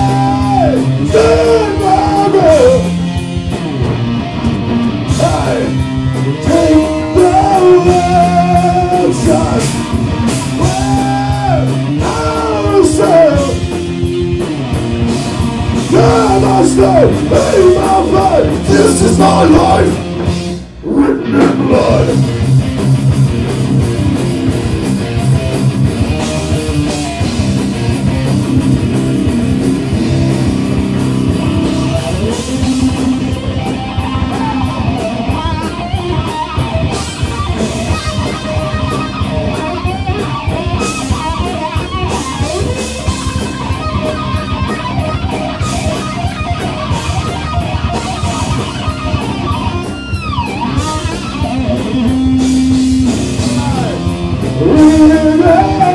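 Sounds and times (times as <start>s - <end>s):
bass guitar: 0.0s - 55.9s
drums: 0.0s - 55.9s
electric guitar with bending notes: 0.0s - 55.9s.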